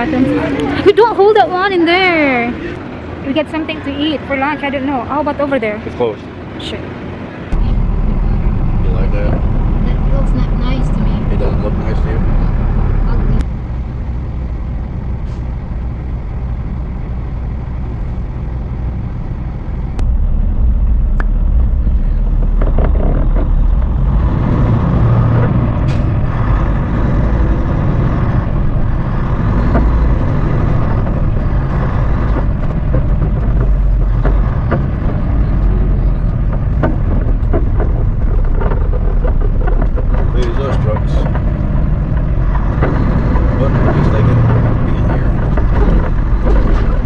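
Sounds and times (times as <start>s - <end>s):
road noise: 0.0s - 47.0s
truck diesel engine running: 0.0s - 47.0s.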